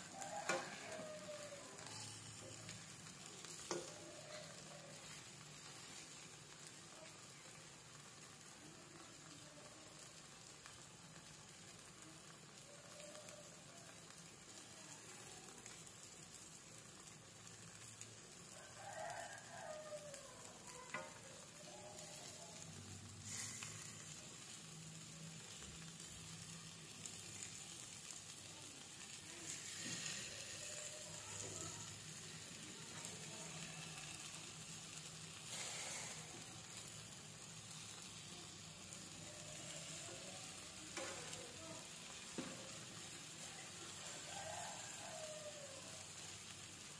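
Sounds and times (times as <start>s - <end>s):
eggplant sizzling in oil: 0.0s - 46.9s.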